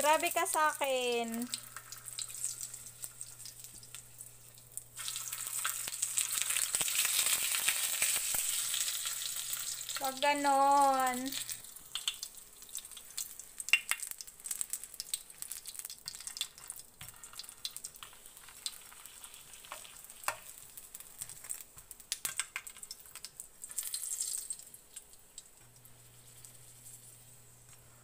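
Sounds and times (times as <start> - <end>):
oil sizzling and crackling: 0.0 - 28.0.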